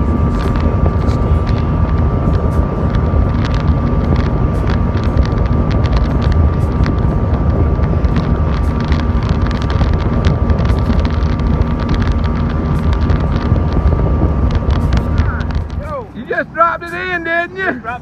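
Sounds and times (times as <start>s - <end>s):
boat motor drone: 0.0s - 18.0s
wind buffeting microphone: 0.0s - 18.0s.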